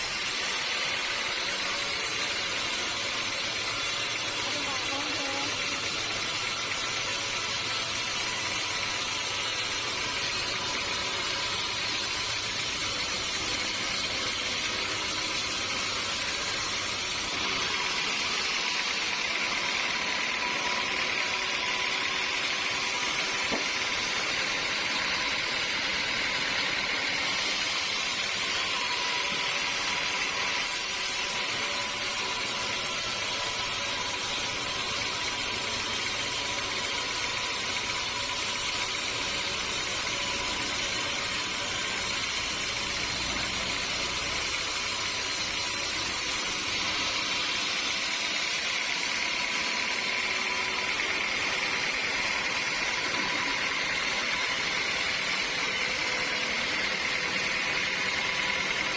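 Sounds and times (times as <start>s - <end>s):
bandsaw mill sawing wood: 0.0s - 58.9s
thin steady whine: 0.0s - 58.9s.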